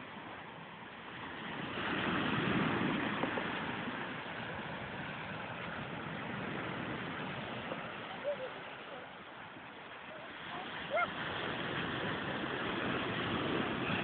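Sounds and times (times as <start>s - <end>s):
sea surf on rocks: 0.0s - 14.0s.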